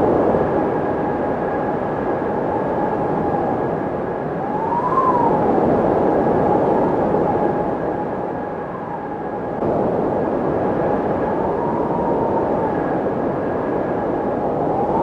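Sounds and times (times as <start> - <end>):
faint constant hum: 0.0 - 15.0
windmill whine rising and falling: 0.0 - 15.0.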